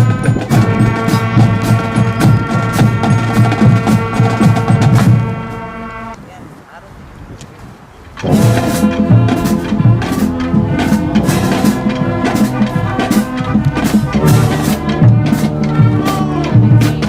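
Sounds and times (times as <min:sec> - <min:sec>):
band playing music: 0:00.0 - 0:06.2, 0:08.2 - 0:17.0.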